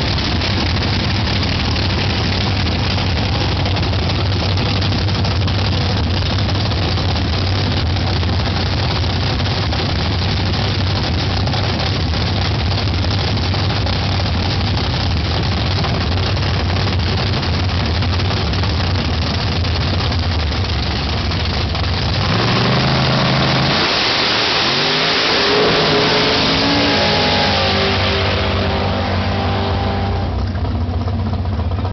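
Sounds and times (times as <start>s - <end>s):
dragster engine revving: 0.0s - 31.9s.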